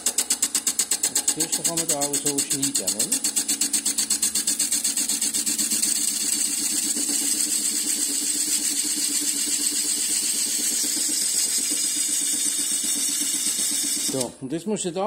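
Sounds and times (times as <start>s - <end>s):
lathe tool cutting wood: 0.0s - 14.3s
lathe motor hum: 0.0s - 14.4s.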